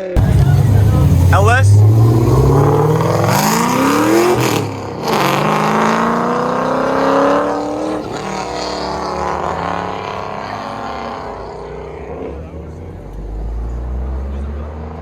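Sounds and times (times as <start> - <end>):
car accelerating hard: 0.0 - 15.0.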